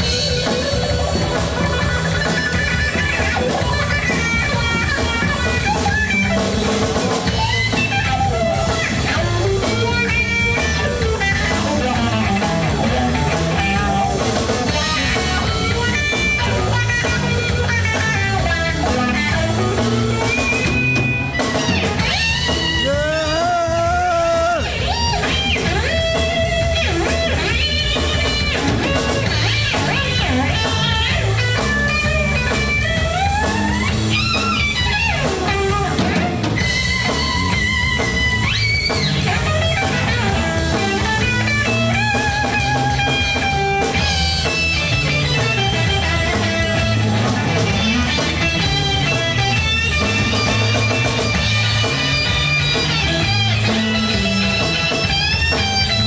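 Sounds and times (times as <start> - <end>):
drum kit: 0.0 - 56.0
electric guitars: 0.0 - 56.0
lead guitar bending notes: 0.0 - 56.0.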